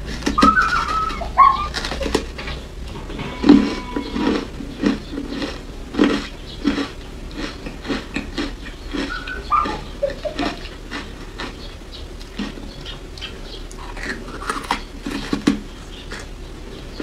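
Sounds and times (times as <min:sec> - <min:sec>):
ice crunching between teeth: 0:00.0 - 0:02.4, 0:03.4 - 0:12.7, 0:13.7 - 0:16.3.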